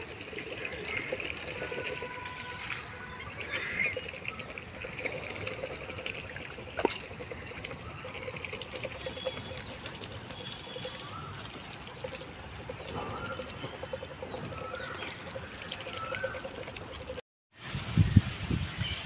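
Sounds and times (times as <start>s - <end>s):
geese dabbling in water: 0.0s - 17.2s.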